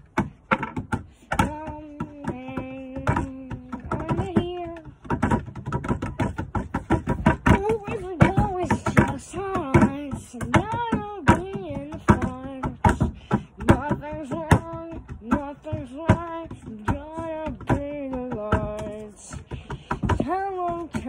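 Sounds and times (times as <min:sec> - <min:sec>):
person singing: 0:01.3 - 0:06.4, 0:07.2 - 0:21.0.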